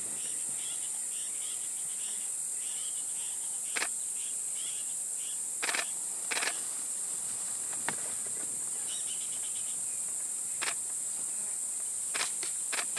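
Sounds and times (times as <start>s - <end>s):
insects chirring: 0.0s - 12.9s.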